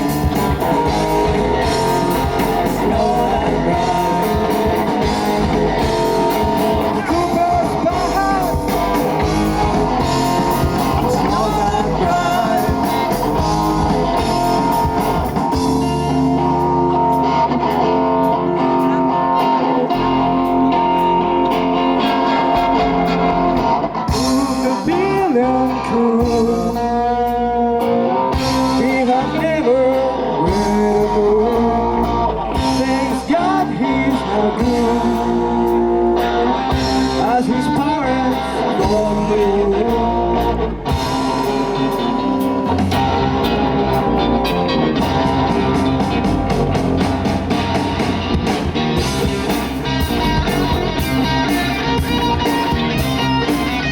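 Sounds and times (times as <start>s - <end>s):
person singing: 0.0s - 23.4s, 24.1s - 46.6s
drums with steady beat: 0.0s - 53.9s
electric guitar: 0.0s - 53.9s.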